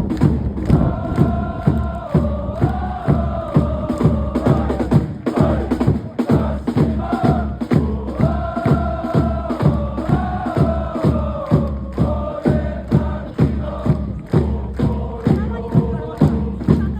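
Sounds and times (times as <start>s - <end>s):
bass drum beat: 0.0s - 16.9s
crowd chanting in unison: 0.0s - 16.9s.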